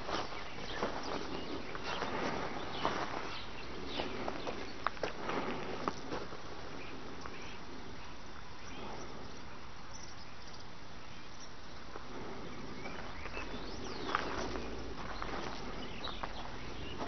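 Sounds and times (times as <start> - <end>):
background hiss: 0.0 - 17.0
faint chirps: 0.0 - 17.0.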